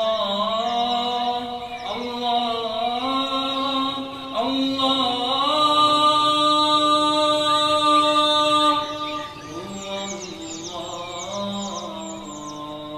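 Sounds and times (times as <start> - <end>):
man singing long notes: 0.0 - 12.9.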